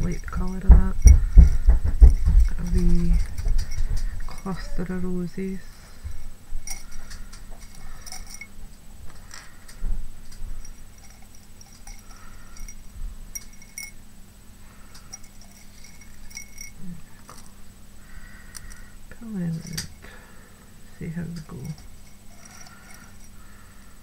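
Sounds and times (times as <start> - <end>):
craft embellishments clinking: 0.0 - 14.2, 14.8 - 17.8, 18.5 - 24.0
faint steady hum: 0.0 - 24.0.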